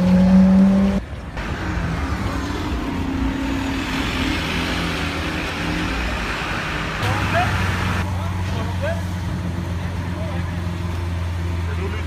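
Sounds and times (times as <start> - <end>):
loud car engine: 0.0 - 12.0
street traffic: 0.0 - 12.0.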